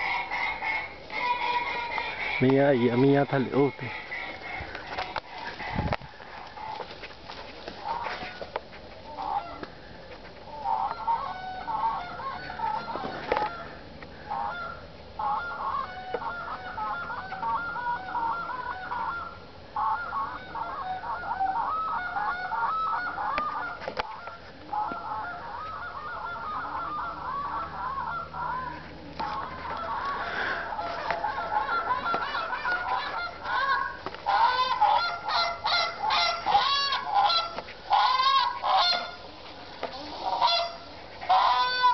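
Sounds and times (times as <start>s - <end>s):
geese honking: 0.0s - 41.9s.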